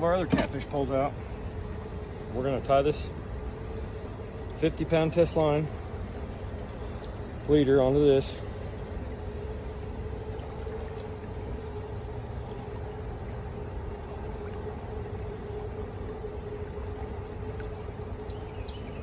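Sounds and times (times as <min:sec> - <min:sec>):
pump motor humming: 0:00.0 - 0:19.0.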